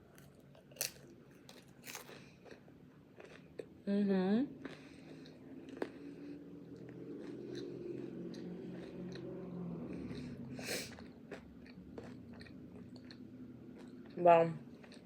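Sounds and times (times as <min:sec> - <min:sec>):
person chewing food: 0:00.0 - 0:03.8, 0:04.6 - 0:15.0.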